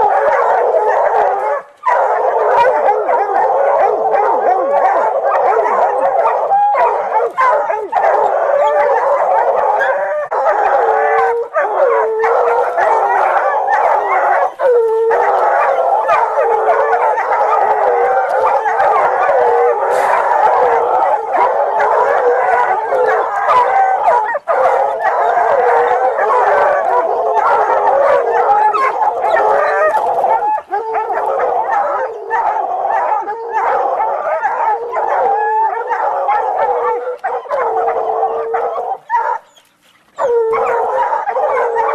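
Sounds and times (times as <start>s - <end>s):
dogs howling yelping and barking: 0.0s - 41.9s.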